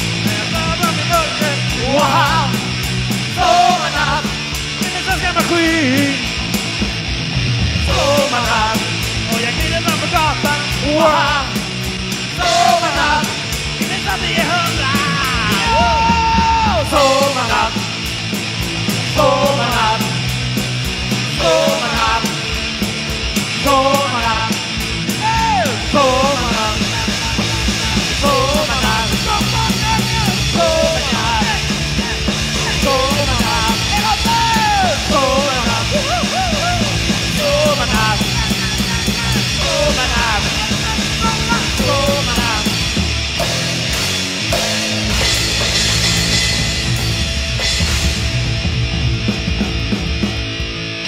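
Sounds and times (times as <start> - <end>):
bass: 0.0 - 51.0
driving drum beat: 0.0 - 51.0.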